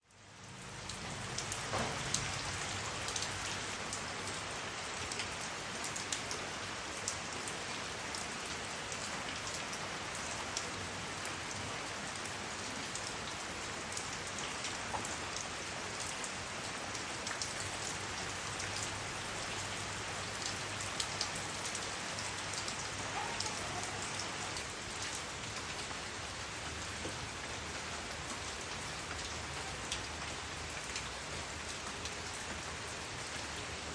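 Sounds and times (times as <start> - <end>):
steady rainfall hiss: 0.1 - 33.9.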